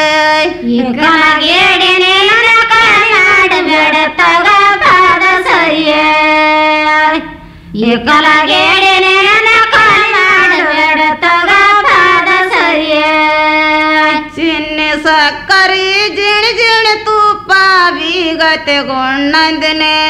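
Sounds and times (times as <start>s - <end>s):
women singing folk song: 0.0s - 20.0s.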